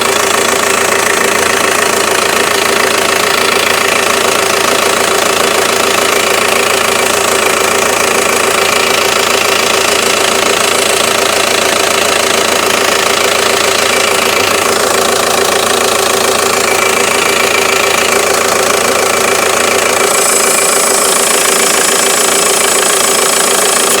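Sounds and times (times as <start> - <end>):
diesel engine running: 0.0 - 24.0
turbo whistling and hissing: 2.9 - 24.0.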